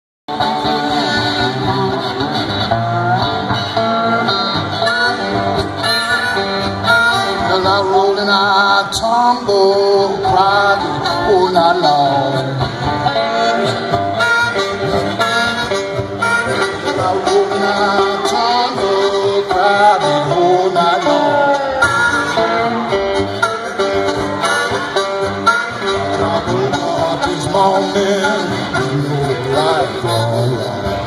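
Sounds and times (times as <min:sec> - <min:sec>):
slide resonator guitar blues: 0:00.3 - 0:31.0.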